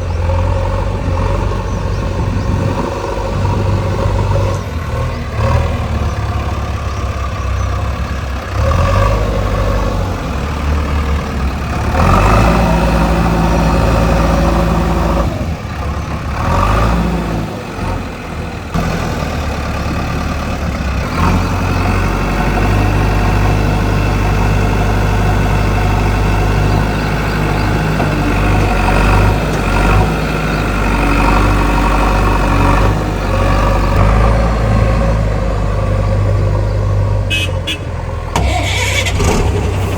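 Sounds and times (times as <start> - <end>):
heavy diesel engines revving: 0.0 - 39.9.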